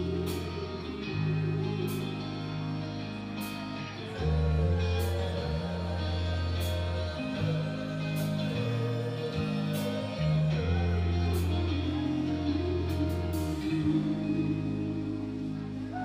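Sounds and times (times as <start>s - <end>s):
rock band playing heavy chords: 0.0s - 16.0s.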